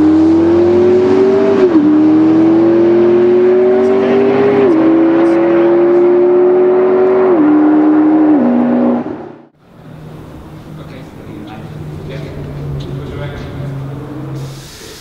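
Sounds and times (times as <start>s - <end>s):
car engine accelerating through gears: 0.0s - 14.7s.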